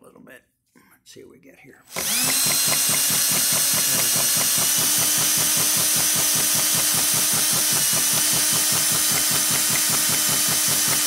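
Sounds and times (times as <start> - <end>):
electric drill motor whine: 1.9 - 11.0.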